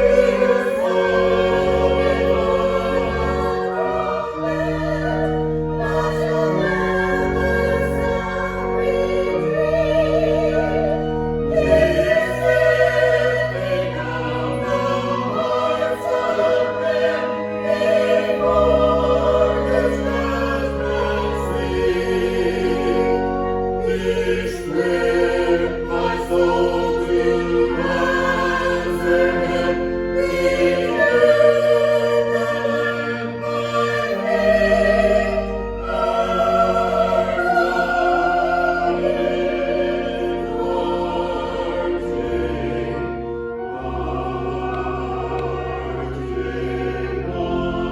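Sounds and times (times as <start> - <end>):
choir singing sacred music: 0.0 - 47.9
instrumental accompaniment: 0.0 - 47.9.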